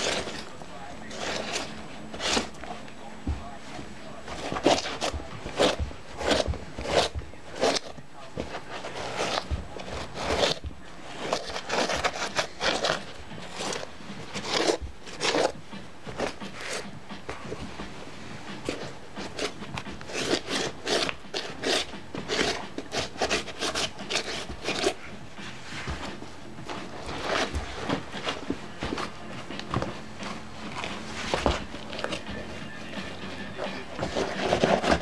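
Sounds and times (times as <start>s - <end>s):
boot sole rubbing on trainers: 0.0s - 35.0s.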